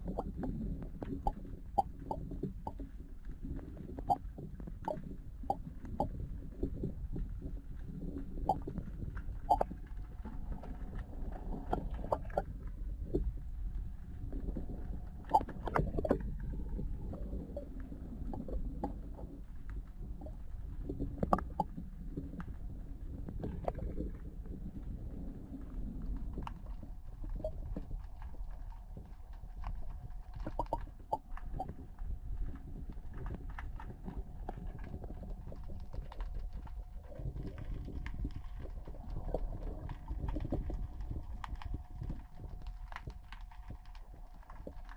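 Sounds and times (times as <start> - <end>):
faint steady hum: 0.0 - 44.9
muffled underwater rumble: 0.0 - 44.9.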